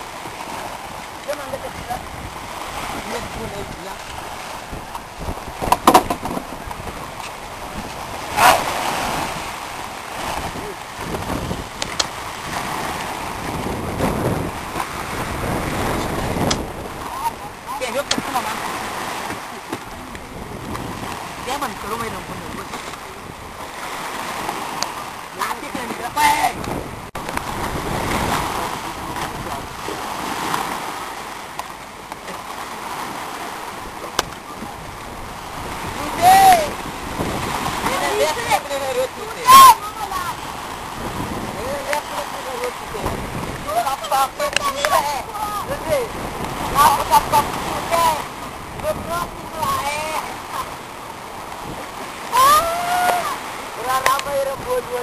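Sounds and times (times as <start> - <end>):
sea waves: 0.0 - 55.0
wind: 0.0 - 55.0.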